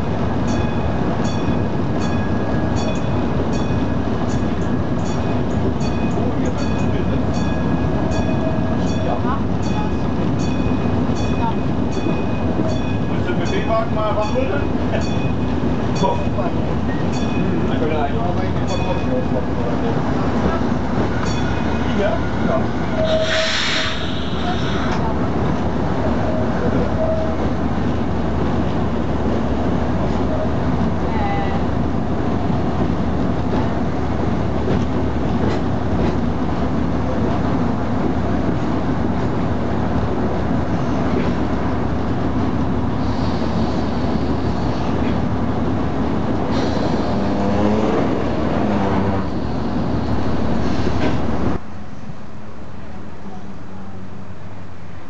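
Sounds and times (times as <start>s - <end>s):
railcar engine running: 0.0s - 55.0s.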